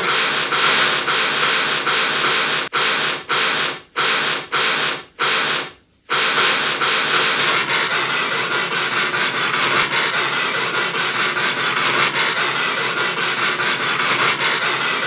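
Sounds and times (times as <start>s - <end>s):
cartoon steam engine chugging: 0.0s - 15.0s.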